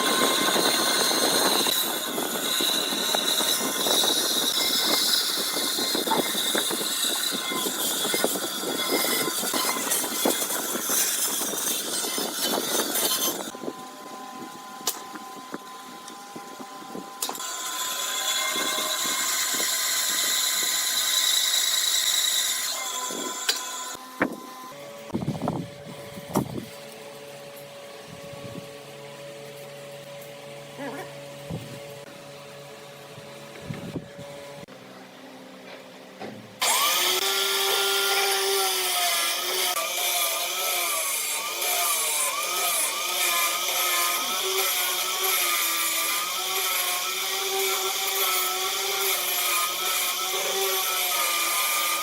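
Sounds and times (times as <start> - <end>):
power tool cutting wood: 0.0 - 30.3, 36.6 - 52.0.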